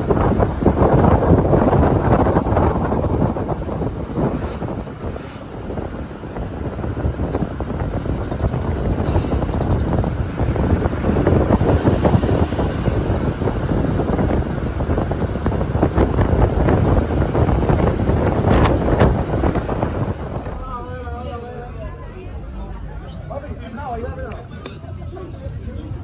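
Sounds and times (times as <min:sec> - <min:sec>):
wind buffeting microphone: 0:00.0 - 0:21.8
vehicle road noise: 0:00.0 - 0:26.0.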